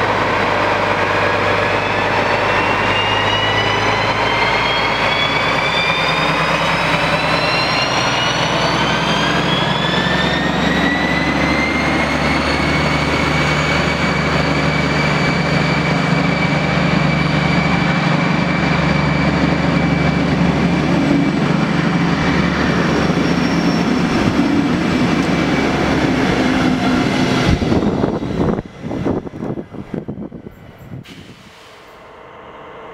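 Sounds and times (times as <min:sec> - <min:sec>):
diesel locomotive drone and whine: 0:00.0 - 0:32.9.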